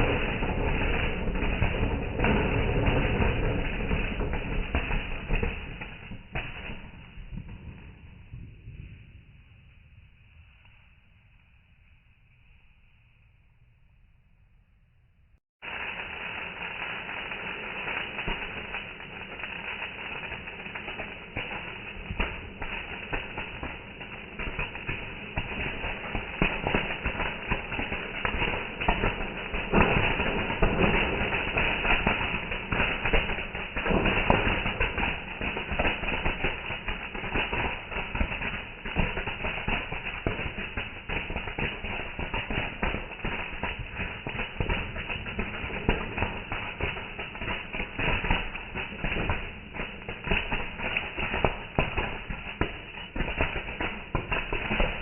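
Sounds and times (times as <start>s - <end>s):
fireworks crackling and banging: 0.0s - 10.6s, 15.6s - 55.0s.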